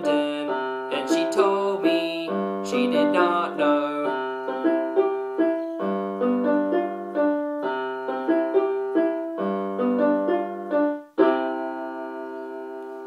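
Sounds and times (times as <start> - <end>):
keyboard melody over chords: 0.0 - 13.0.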